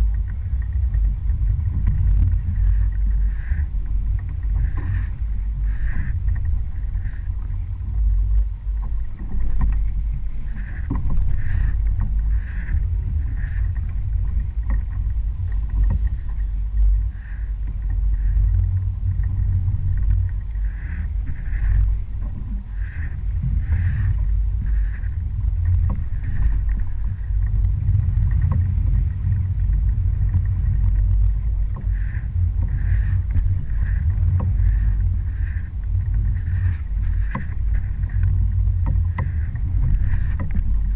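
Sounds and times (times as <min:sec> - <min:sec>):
boat motor rumble: 0:00.0 - 0:40.9.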